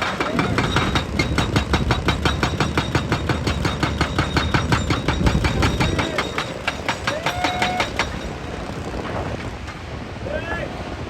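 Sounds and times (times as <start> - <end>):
machinery hammering rapidly: 0.0 - 8.9.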